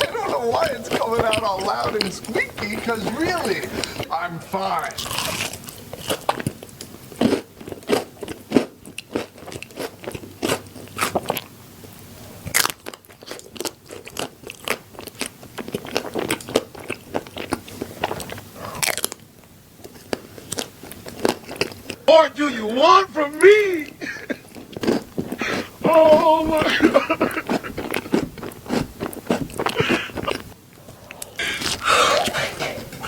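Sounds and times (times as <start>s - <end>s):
person chewing crunchy food: 0.0s - 4.1s, 4.8s - 22.1s, 23.8s - 33.0s.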